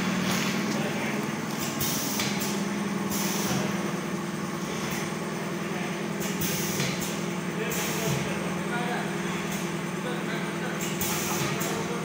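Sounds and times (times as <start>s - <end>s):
machine motor hum: 0.0s - 12.0s.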